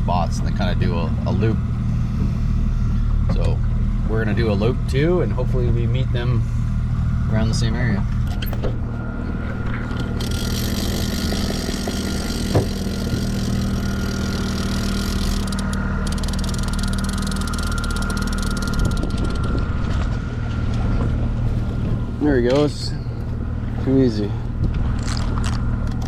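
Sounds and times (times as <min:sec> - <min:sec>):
boat engine humming: 0:00.0 - 0:26.0
high whine: 0:00.0 - 0:26.0.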